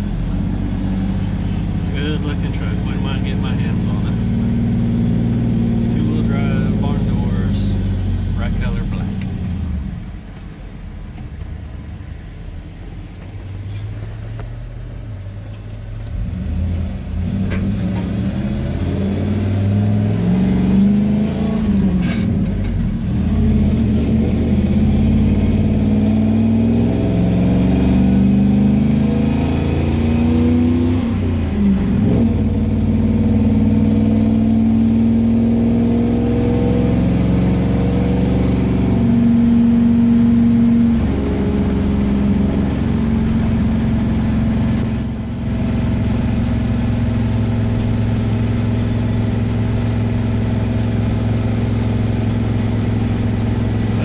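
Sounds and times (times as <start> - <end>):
truck engine accelerating: 0.0 - 54.0.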